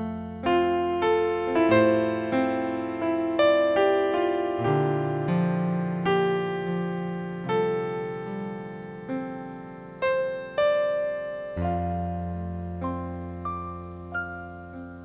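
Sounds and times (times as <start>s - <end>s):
slow piano notes: 0.0s - 15.0s.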